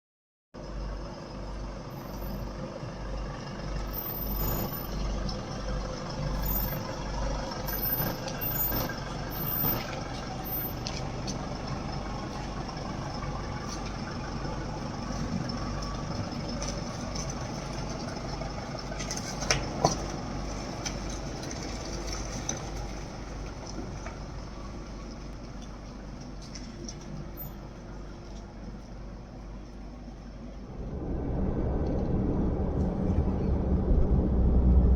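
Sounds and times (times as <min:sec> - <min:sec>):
vehicle engine and road noise: 0:00.6 - 0:34.9.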